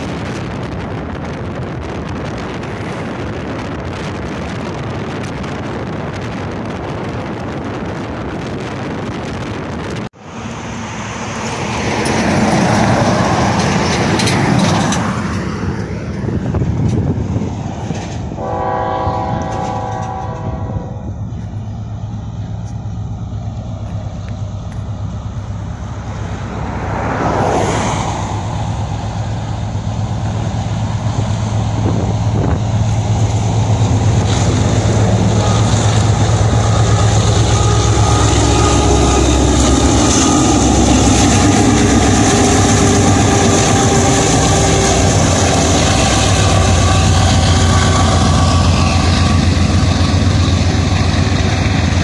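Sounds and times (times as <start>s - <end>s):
diesel locomotive drone: 0.0s - 52.0s
rumble of train wagons: 0.0s - 52.0s.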